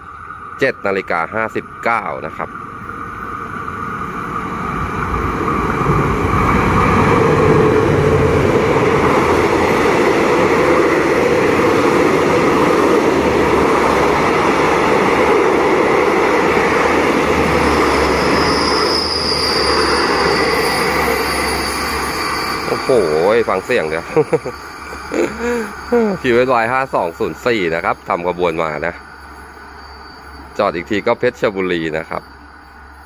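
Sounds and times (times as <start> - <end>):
train wheels rumbling on rails: 0.0 - 33.0
high squealing tone: 6.1 - 33.0.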